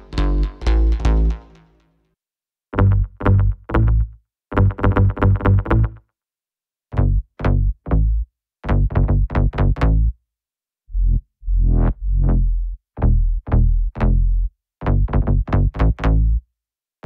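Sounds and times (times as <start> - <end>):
plucky synth bass notes: 0.0 - 1.7, 2.8 - 6.0, 7.0 - 10.2, 10.9 - 16.4.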